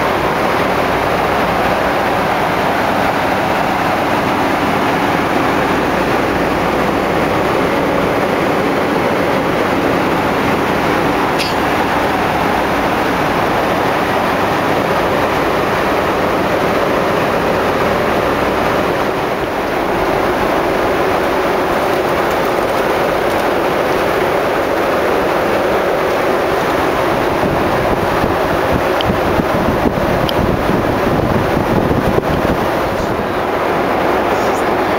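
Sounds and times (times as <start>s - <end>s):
airplane cabin airflow and engine noise: 0.0s - 34.9s.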